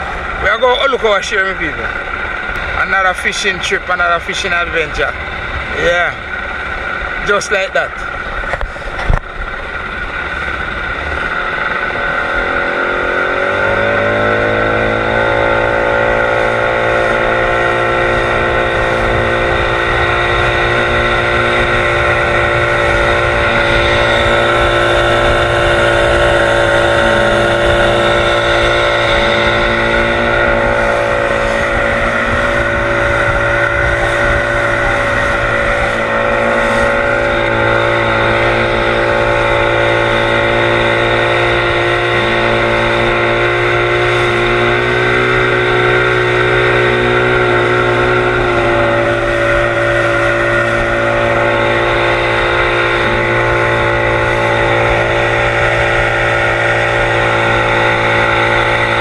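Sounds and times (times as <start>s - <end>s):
outboard motor running: 0.0s - 59.0s
wake rushing along hull: 0.0s - 59.0s.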